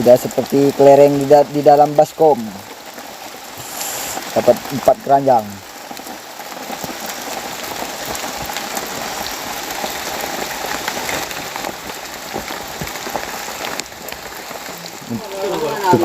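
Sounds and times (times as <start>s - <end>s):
rain falling steadily: 0.0s - 16.0s.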